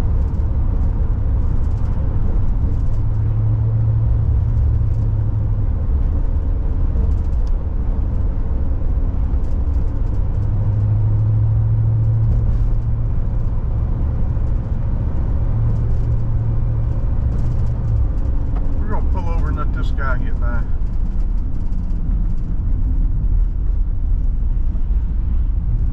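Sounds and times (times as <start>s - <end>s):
car road noise inside cabin: 0.0s - 25.9s.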